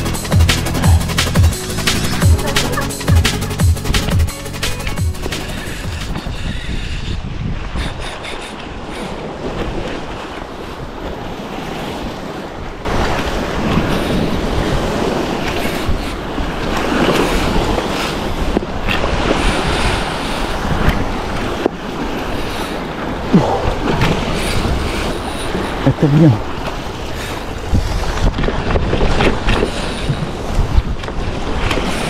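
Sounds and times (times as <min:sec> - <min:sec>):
ocean surf washing: 0:00.0 - 0:32.0
wind buffeting microphone: 0:05.1 - 0:32.0.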